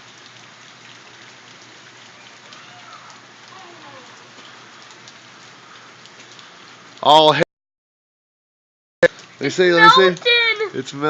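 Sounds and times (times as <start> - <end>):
hail pattering on ground: 0.0 - 7.0, 9.1 - 11.0.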